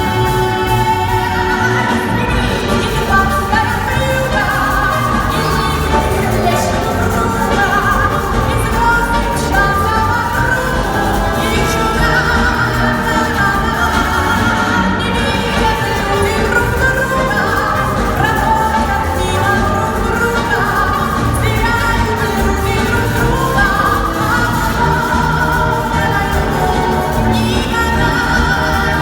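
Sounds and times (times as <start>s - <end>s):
song with singing: 0.0s - 29.0s.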